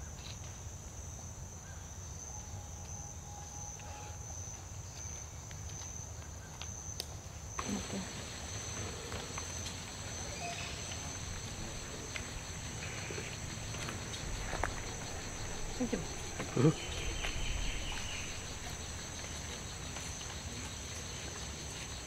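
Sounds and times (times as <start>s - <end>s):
insects trilling: 1.6s - 22.0s.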